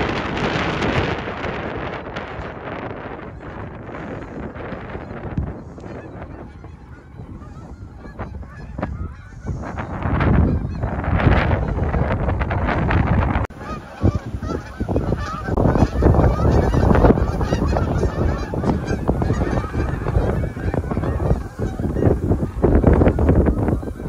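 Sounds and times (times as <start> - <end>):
geese honking: 0.0 - 24.0
wind rumble on microphone: 0.0 - 24.0.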